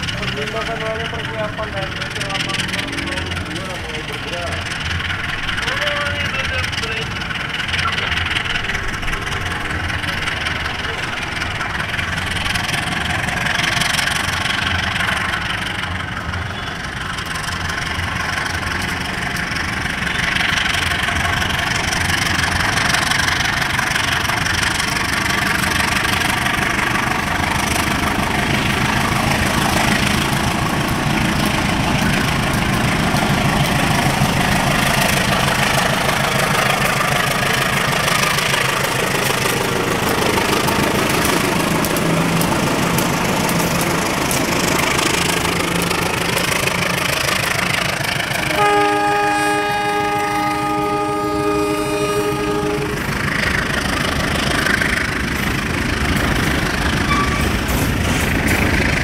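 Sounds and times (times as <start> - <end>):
locomotive engine running: 0.0 - 59.0.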